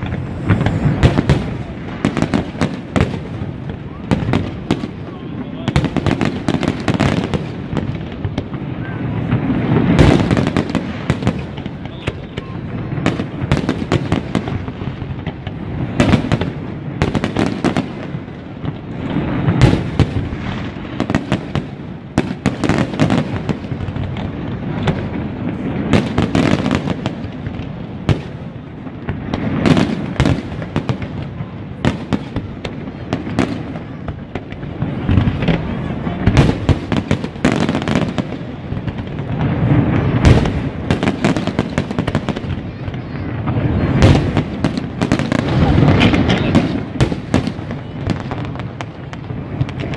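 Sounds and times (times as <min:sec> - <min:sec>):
fireworks bursts and bangs: 0:00.0 - 0:49.9
fireworks crackling: 0:00.0 - 0:49.9.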